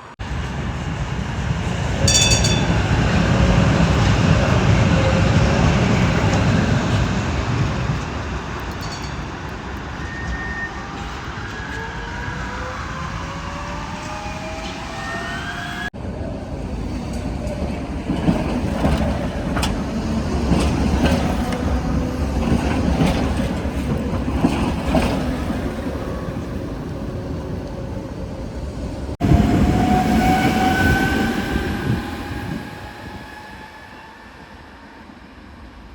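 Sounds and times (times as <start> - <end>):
tram rumble: 0.0 - 35.9.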